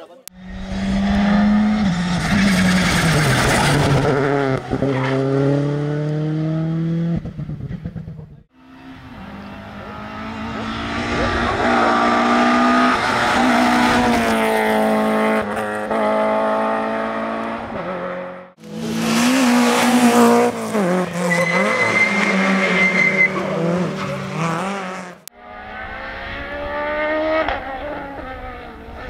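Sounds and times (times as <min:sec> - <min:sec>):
rally car engines revving: 0:00.3 - 0:29.0.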